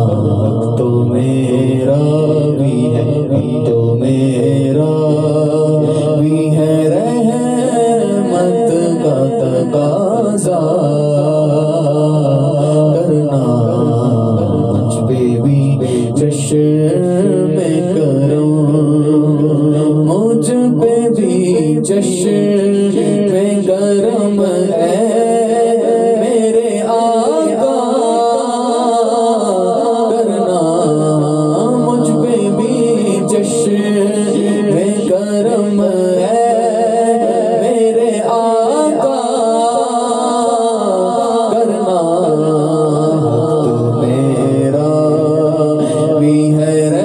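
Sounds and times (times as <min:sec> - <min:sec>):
man singing with echo: 0:00.0 - 0:47.0.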